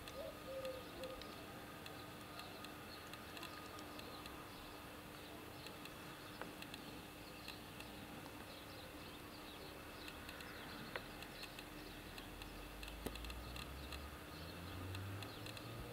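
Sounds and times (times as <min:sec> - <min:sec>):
sharp clicks: 0:00.0 - 0:04.5, 0:05.1 - 0:08.6, 0:09.9 - 0:15.9.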